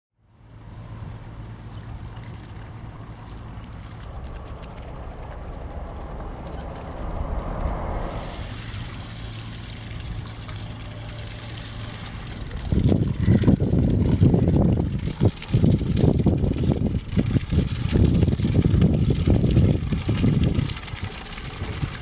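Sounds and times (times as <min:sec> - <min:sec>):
ship engine droning: 0:00.2 - 0:22.0
water wash from passing hull: 0:00.3 - 0:22.0.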